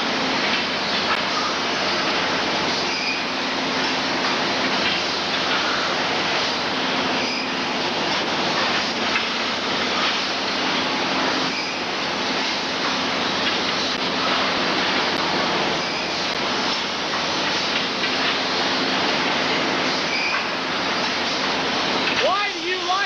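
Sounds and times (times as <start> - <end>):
woodworking machinery noise: 0.0 - 23.0.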